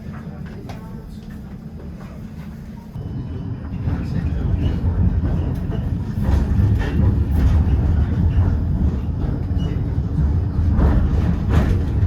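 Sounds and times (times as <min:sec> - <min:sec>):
tram rumbling on tracks: 0:00.0 - 0:12.0.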